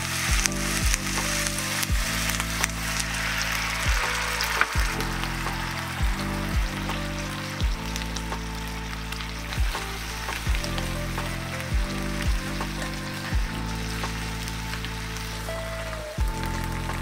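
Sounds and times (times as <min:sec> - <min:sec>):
chopsticks stirring in a pan: 0:00.0 - 0:15.5
background music with soft drum beat: 0:00.0 - 0:17.0
liquid sizzling in a hot pan: 0:00.0 - 0:17.0.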